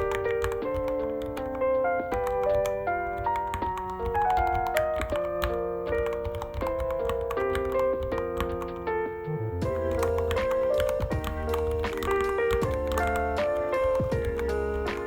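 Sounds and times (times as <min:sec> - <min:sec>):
background music melody: 0:00.0 - 0:15.0.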